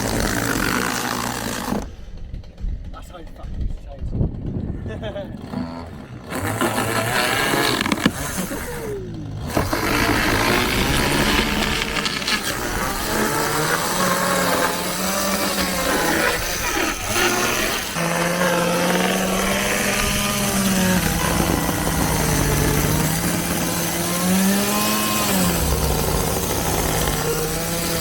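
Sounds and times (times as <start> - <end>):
chainsaw cutting wood: 0.0 - 2.9, 3.5 - 28.0.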